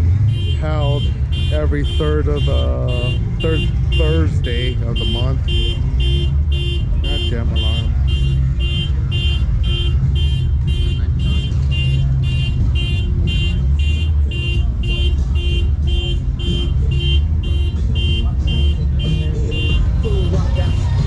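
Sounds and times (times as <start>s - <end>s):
car alarm beeping: 0.1s - 21.0s.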